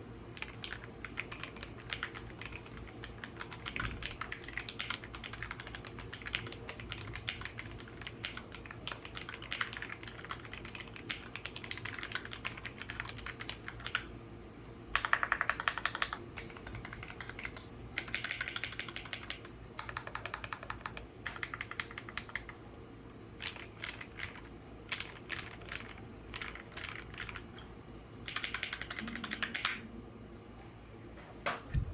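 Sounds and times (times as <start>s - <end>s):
typing on mechanical keyboard: 0.4s - 14.0s, 15.0s - 22.6s, 23.4s - 27.5s, 28.3s - 29.8s.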